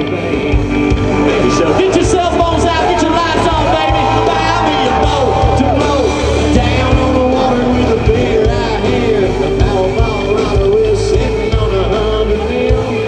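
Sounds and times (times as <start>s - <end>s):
country band playing live: 0.0s - 13.0s
person singing: 0.0s - 13.0s.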